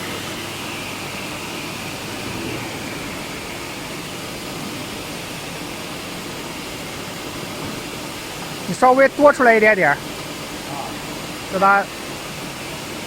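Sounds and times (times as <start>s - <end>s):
factory background noise: 0.0s - 13.0s.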